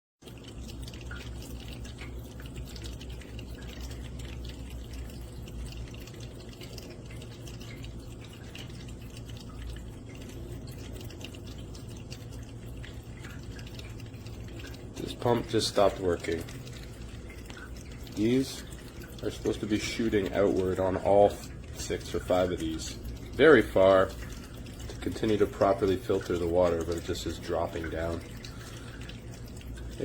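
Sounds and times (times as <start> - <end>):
water dripping and trickling: 0.2 - 30.0
steady low hum: 0.3 - 30.0.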